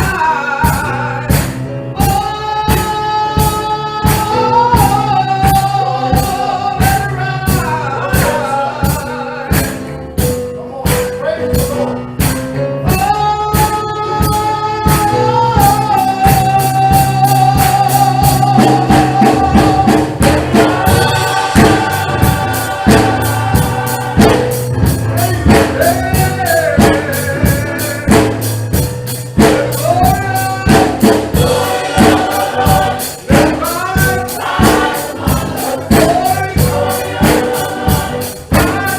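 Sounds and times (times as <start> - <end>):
gospel choir singing: 0.0 - 38.9
instrumental backing: 0.0 - 38.9
tambourine beat: 0.0 - 38.9.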